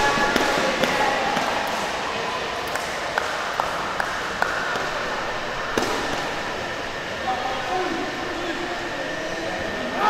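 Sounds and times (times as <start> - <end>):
crowd murmur: 0.0 - 10.0.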